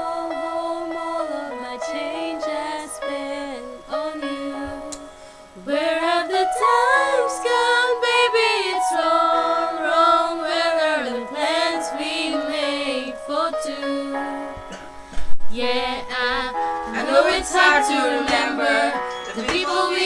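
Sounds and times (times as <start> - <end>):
instrumental backing music: 0.0 - 20.0.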